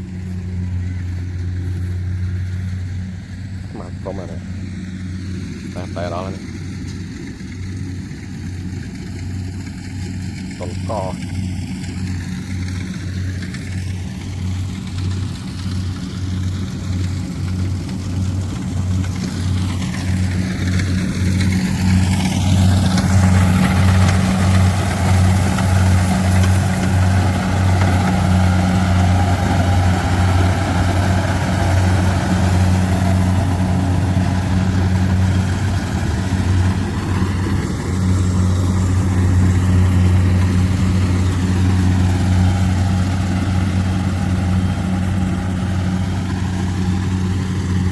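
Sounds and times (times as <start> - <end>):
combine harvester engine humming: 0.0 - 47.9.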